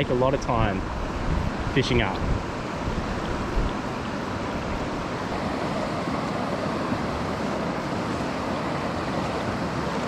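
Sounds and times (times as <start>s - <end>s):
mountain stream flowing: 0.0s - 10.0s.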